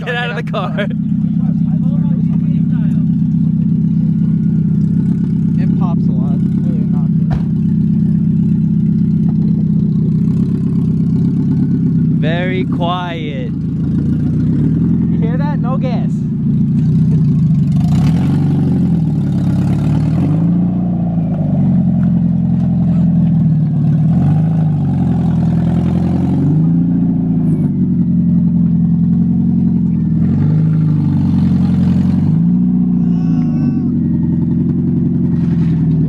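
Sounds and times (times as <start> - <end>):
unmuffled car engine revving: 0.0 - 36.0.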